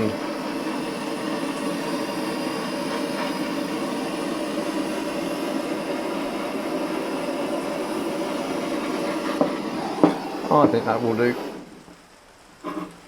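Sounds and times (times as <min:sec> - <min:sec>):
blow lamp flame burning: 0:00.0 - 0:13.0.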